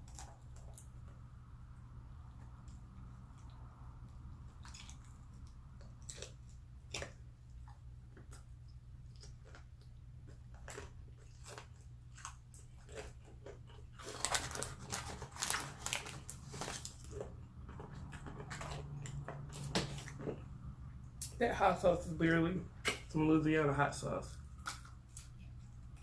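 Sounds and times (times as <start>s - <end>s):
crunching fried chicken: 0.0s - 1.4s, 2.0s - 21.5s.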